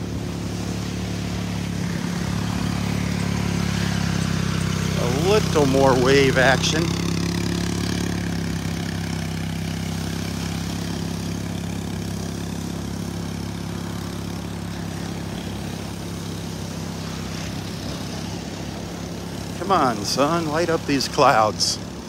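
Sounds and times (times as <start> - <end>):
low engine hum: 0.0 - 22.0
surf washing: 0.0 - 22.0.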